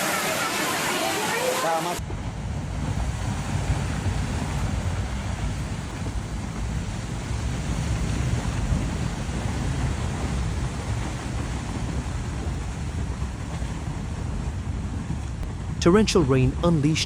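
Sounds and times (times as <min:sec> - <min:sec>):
floodwater rushing: 0:00.0 - 0:17.0
wind buffeting microphone: 0:02.0 - 0:17.0.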